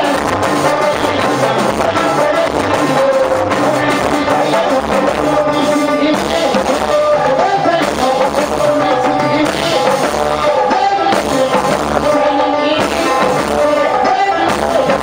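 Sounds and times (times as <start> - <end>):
hand-played frame drum: 0.0 - 15.0.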